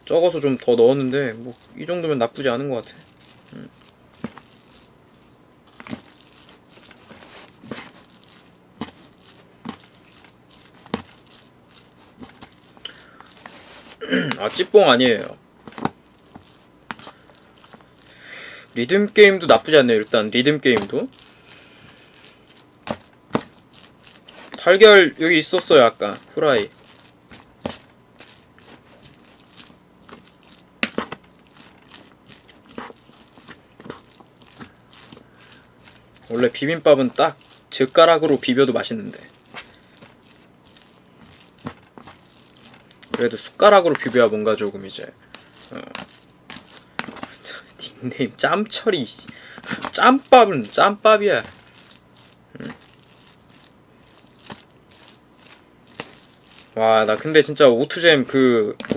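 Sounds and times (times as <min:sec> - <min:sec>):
rice rustling: 0:00.0 - 0:58.9.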